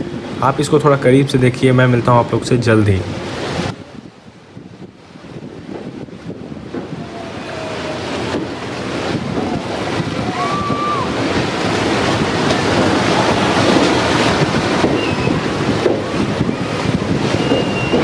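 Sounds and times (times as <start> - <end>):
sea waves splashing: 0.0 - 18.0
wind on microphone: 1.6 - 18.0.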